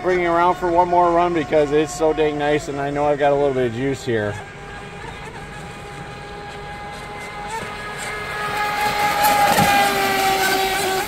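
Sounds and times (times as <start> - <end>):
electric motor whining: 0.1 - 11.0.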